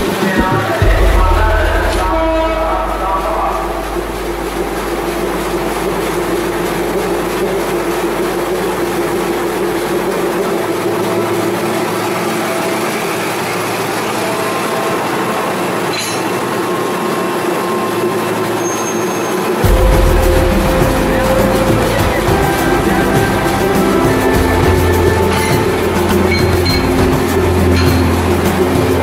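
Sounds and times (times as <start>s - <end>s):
diesel locomotive idling: 0.8s - 29.0s.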